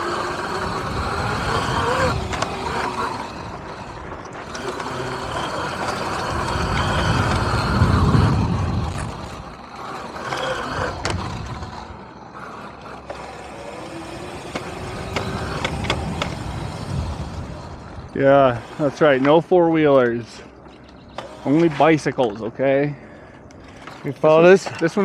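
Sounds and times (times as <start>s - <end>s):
dirt bike riding rumble and rattle: 0.0s - 25.0s.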